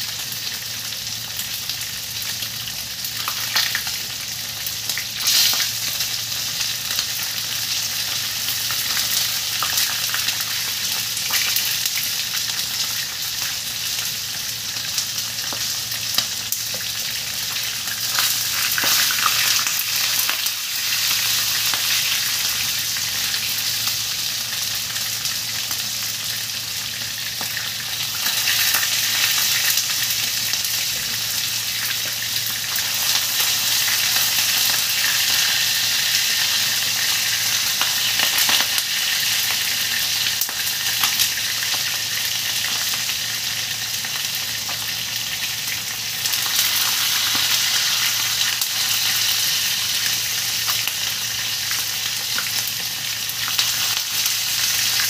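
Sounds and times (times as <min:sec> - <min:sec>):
chicken sizzling in a frying pan: 0:00.0 - 0:55.0.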